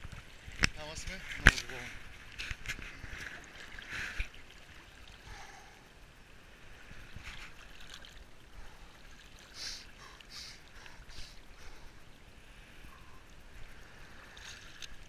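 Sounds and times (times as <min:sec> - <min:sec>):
sea water lapping and splashing: 0:00.0 - 0:15.0.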